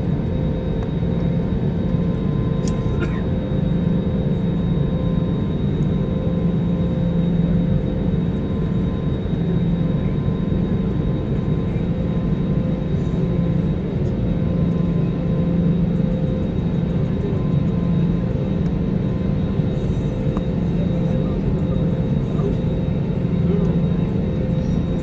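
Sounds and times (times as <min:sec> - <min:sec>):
aircraft cabin engine hum: 0:00.0 - 0:25.0
thin steady whine: 0:00.0 - 0:25.0.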